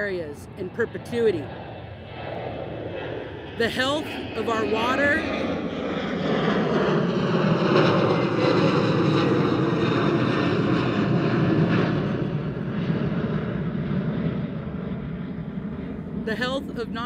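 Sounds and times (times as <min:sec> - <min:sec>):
airplane engines passing overhead: 0:00.0 - 0:17.0.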